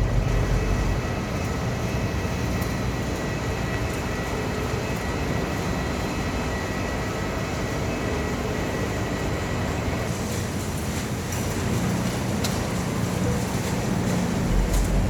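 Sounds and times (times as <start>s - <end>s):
furnace blower fan rushing: 0.0s - 5.6s, 8.2s - 15.0s.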